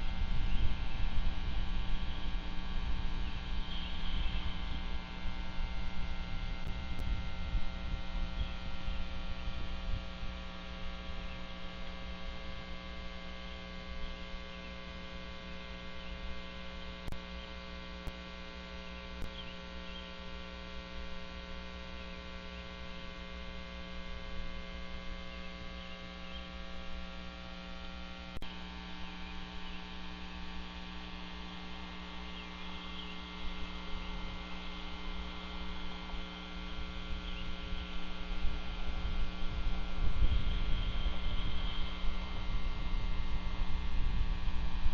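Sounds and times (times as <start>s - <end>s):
electrical mains hum: 0.0s - 44.9s
low rumbling noise: 0.0s - 44.9s.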